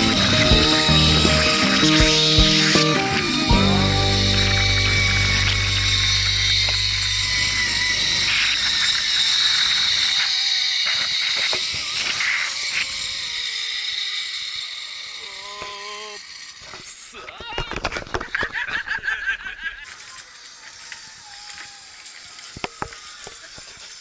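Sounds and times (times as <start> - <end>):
zipline pulleys whirring on cable: 0.0 - 24.0.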